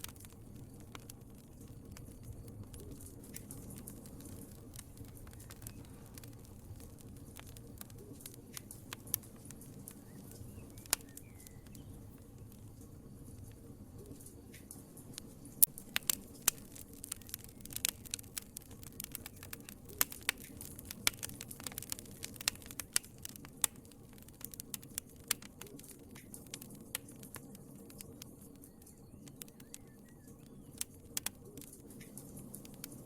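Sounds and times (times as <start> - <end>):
low hiss of flames: 0.0 - 33.0
wood fire crackling: 0.0 - 33.0.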